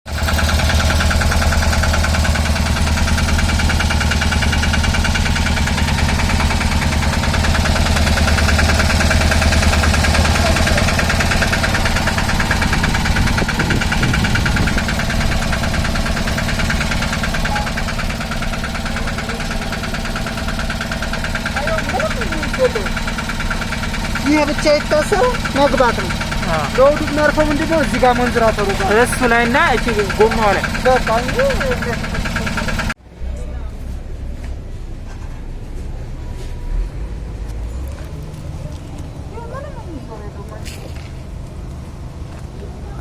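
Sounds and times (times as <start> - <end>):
engine idling: 0.1 - 43.0.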